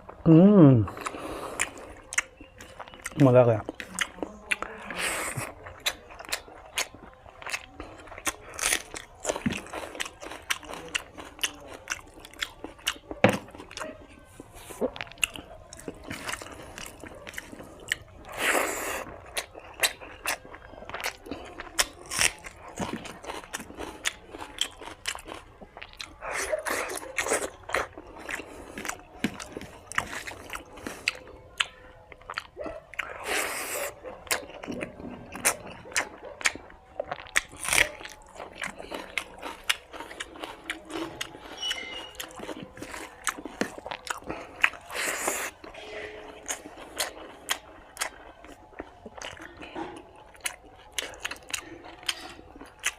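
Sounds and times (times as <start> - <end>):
person chewing with wet mouth sounds: 0.0 - 52.9.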